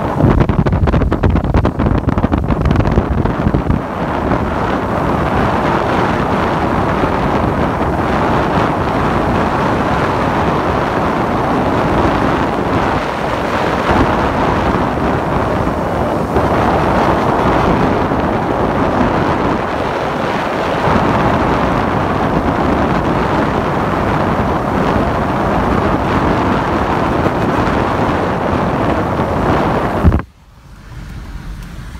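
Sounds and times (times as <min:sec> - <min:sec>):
motorcycle engine and road noise: 0:00.0 - 0:31.9
wind rush over microphone: 0:00.0 - 0:31.9.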